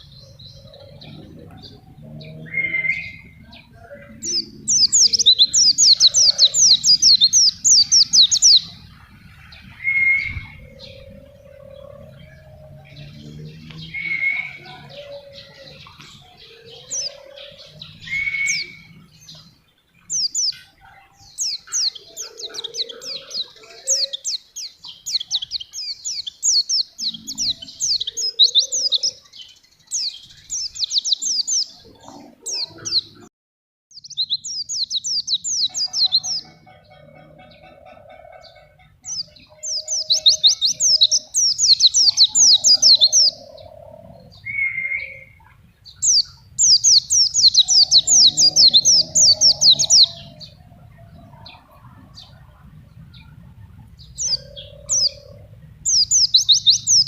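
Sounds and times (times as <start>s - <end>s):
bird singing high chattering notes: 0.0s - 33.3s, 33.9s - 57.0s.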